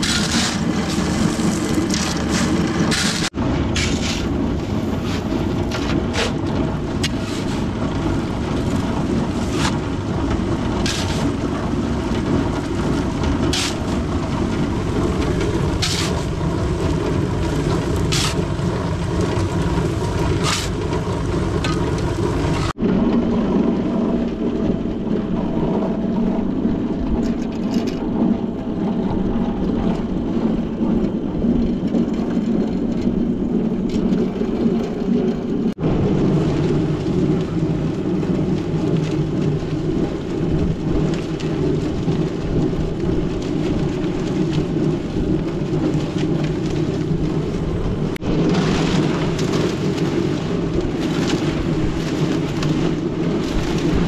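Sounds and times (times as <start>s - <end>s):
concrete mixer rumbling: 0.0s - 54.0s.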